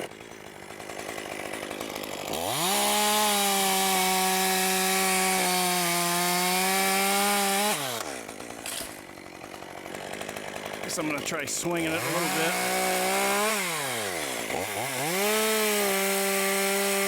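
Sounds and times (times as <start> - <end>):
chainsaw cutting wood: 0.0 - 17.0
chainsaw idling and revving: 0.0 - 17.0.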